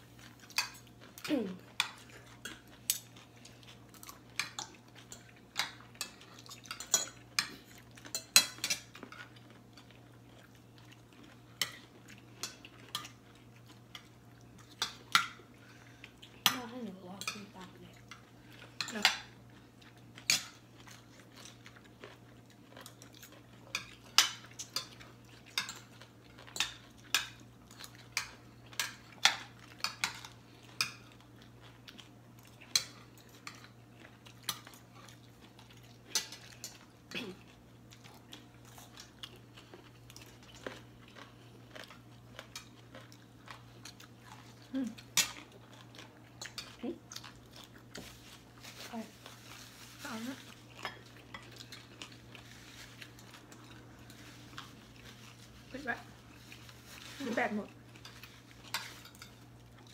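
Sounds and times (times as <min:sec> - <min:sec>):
chewing: 0:00.2 - 0:59.9.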